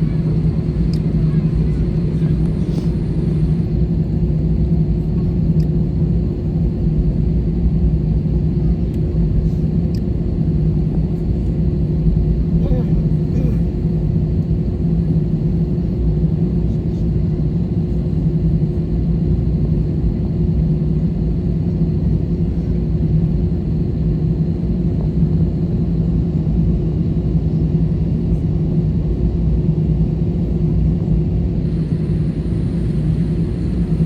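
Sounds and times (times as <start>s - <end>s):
aircraft cabin drone: 0.0s - 34.0s.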